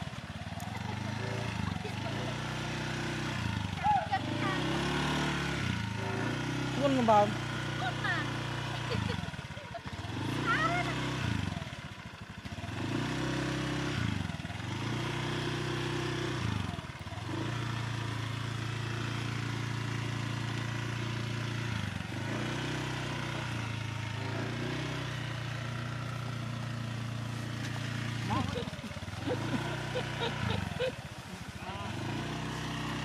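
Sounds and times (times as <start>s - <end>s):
motor scooter engine running: 0.0s - 33.0s.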